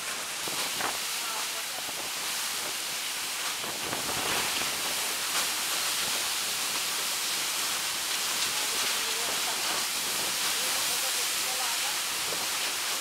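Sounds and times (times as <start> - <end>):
driving rain: 0.0 - 13.0
floodwater rushing: 0.0 - 13.0
storm wind: 0.0 - 13.0.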